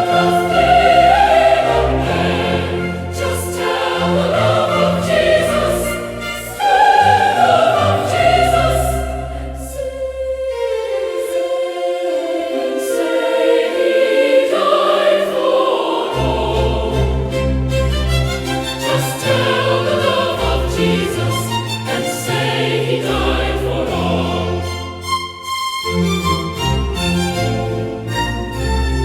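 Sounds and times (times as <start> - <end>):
choir singing a hymn: 0.0 - 25.2.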